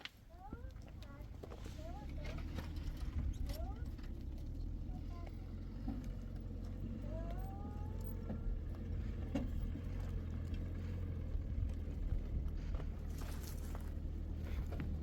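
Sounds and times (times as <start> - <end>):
vehicle engine idling: 0.2 - 15.0.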